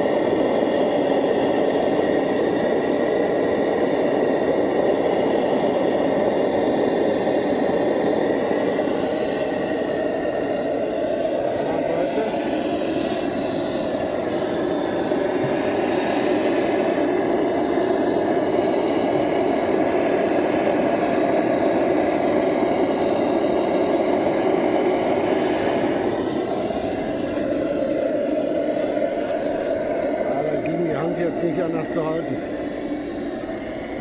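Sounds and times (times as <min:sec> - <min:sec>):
blowtorch burning: 0:00.0 - 0:34.0.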